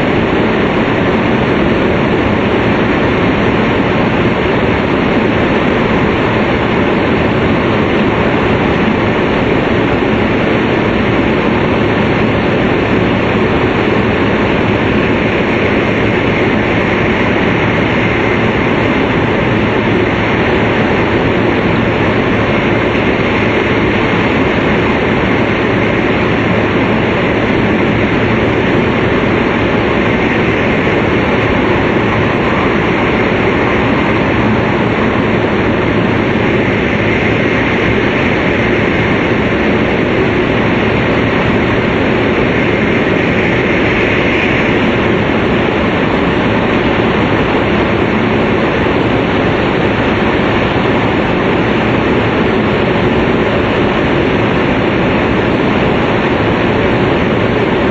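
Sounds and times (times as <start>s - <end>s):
train rumbling at speed: 0.0s - 57.9s.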